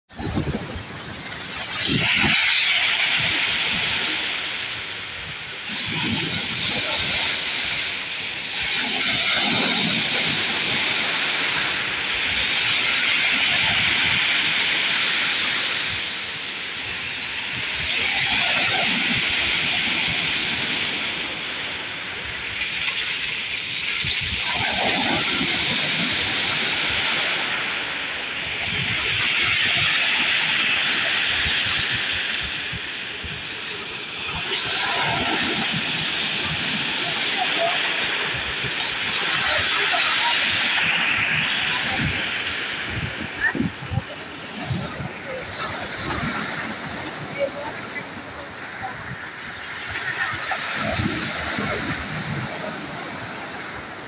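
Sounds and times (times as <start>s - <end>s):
wave crash: 0.1s - 54.0s
waves washing over pebbles: 0.1s - 54.0s.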